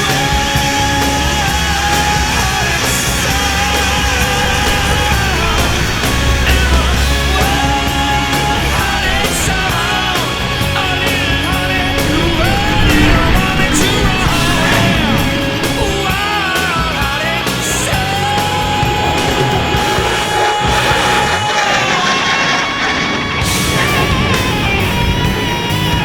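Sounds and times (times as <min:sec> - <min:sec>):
rock music: 0:00.0 - 0:26.0.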